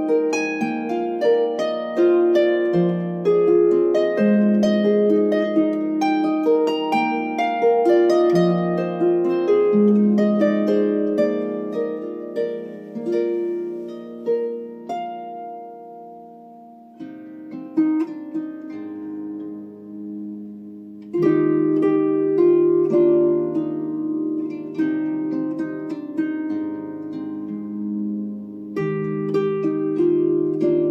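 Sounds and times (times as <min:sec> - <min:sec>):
harp playing: 0:00.0 - 0:30.9.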